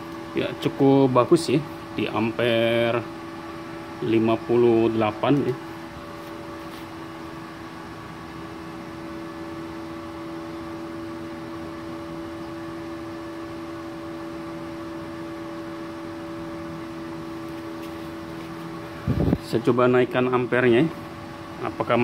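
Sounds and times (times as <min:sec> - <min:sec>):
cooling fan whirring: 0:00.0 - 0:22.0.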